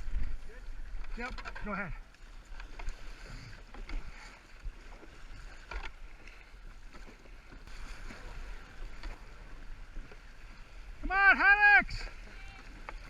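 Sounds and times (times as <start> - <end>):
paddles stroking through water: 0.0 - 13.0
water splashes: 0.0 - 13.0.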